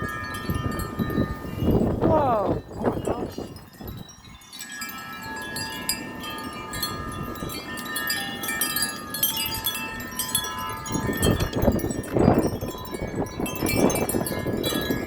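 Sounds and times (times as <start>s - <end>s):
metal wind chimes ringing: 0.0s - 15.0s
wind buffeting microphone: 0.0s - 15.0s.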